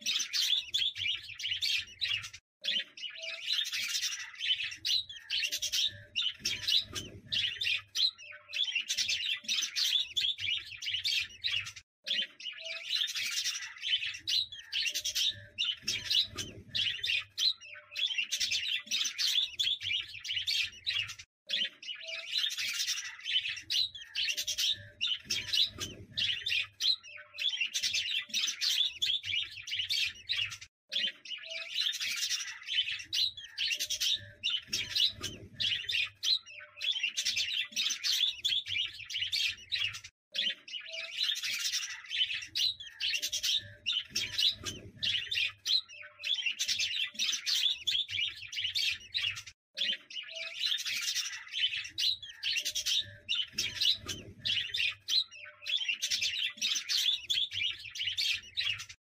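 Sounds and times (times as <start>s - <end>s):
budgerigars chattering: 0.0s - 58.9s.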